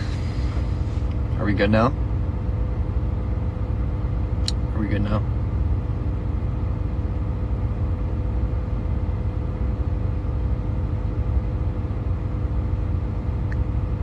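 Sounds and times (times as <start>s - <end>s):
faint even hum: 0.0s - 14.0s
truck engine rumble from cab: 0.0s - 14.0s.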